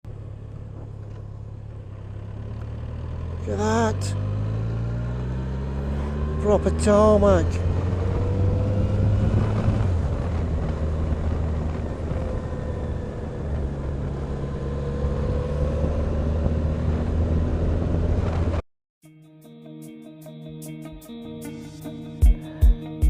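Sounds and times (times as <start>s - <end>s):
road noise: 0.0s - 18.6s
motorcycle engine cruising: 0.1s - 18.6s.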